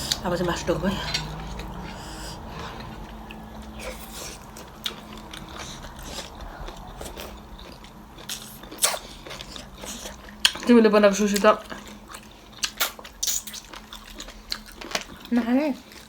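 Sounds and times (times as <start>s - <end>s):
person chewing meat: 0.9s - 10.7s, 11.6s - 16.0s.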